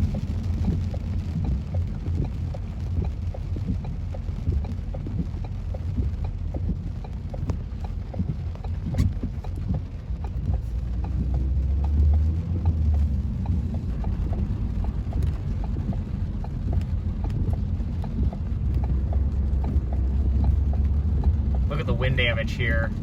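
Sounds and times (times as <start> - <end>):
car engine rumble: 0.0 - 23.0
indicator flasher ticking: 0.0 - 23.0
road noise in car cabin: 0.0 - 23.0.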